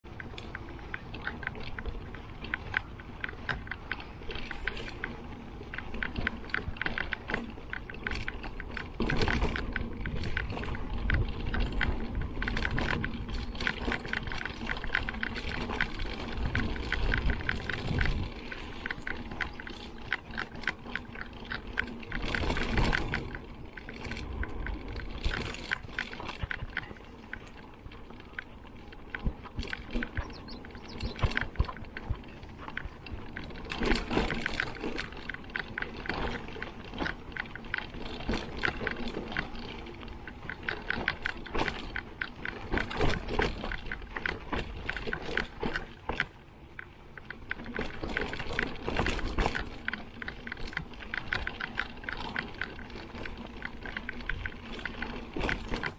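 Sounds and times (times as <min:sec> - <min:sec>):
bike rattling and clattering: 0:00.0 - 0:55.9
bike tyres rumbling on dirt: 0:00.1 - 0:55.9.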